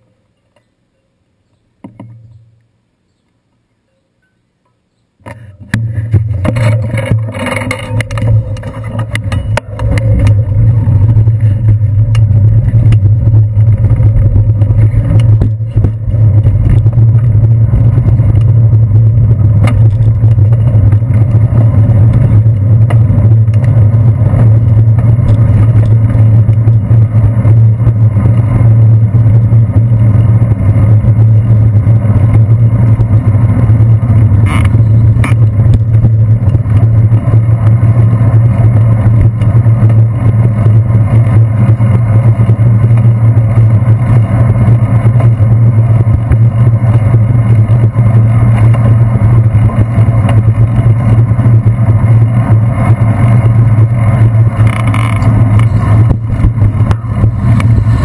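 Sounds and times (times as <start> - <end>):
road vibration and wind rumble: 0.8 - 3.1, 5.0 - 58.0.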